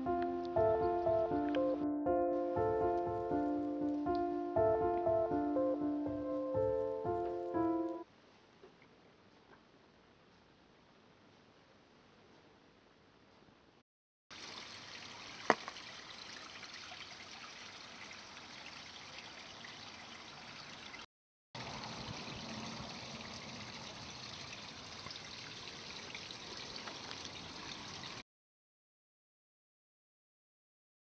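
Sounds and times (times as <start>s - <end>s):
outdoor background hiss: 0.0s - 21.0s, 21.6s - 28.2s.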